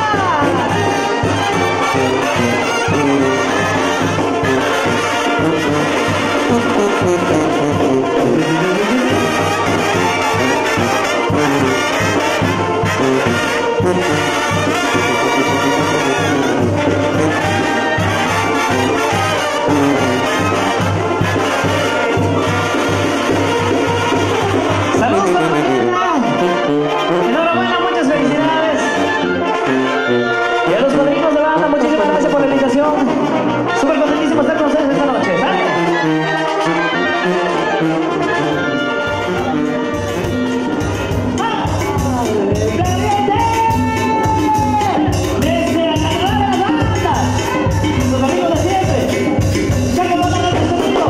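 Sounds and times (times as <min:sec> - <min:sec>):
trumpets and trombones: 0:00.0 - 0:51.0.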